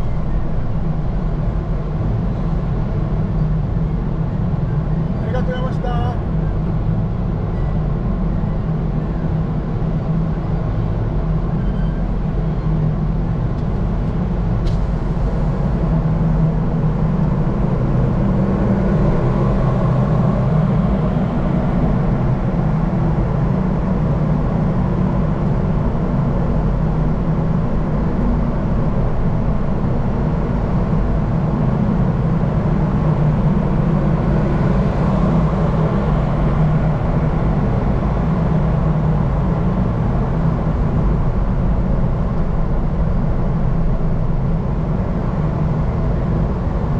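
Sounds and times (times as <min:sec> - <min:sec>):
vehicle engine drone: 0:00.0 - 0:46.9.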